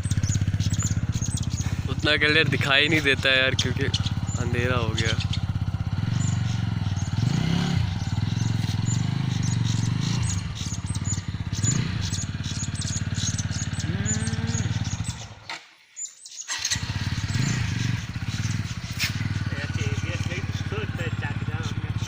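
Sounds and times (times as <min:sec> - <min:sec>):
motorcycle engine idling: 0:00.0 - 0:15.6, 0:16.3 - 0:22.0
birds chirping: 0:00.0 - 0:22.0.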